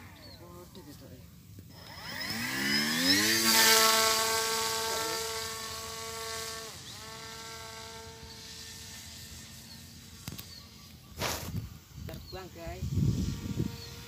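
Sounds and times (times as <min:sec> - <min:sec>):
electric motor whine: 0:00.0 - 0:14.0.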